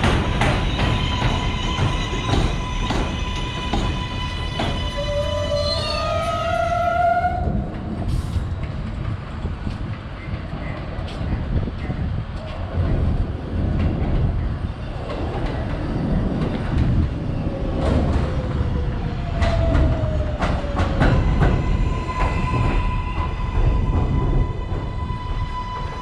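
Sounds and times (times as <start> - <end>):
subway train rumbling on rails: 0.0 - 26.0.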